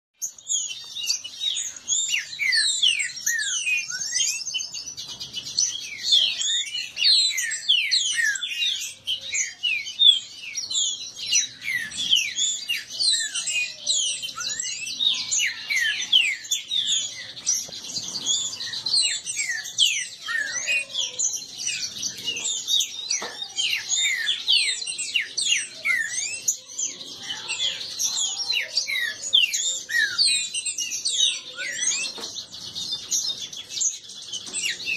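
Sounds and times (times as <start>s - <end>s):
birds singing rapid whistles: 0.2s - 34.9s.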